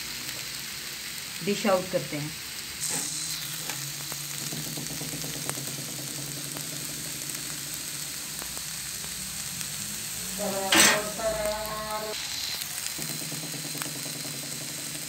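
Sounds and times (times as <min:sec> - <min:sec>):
food sizzling in fat: 0:00.0 - 0:15.0.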